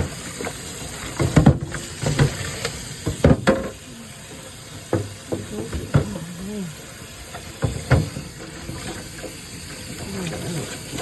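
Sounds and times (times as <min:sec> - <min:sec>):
scrubbing with hot water hiss: 0:00.0 - 0:11.0.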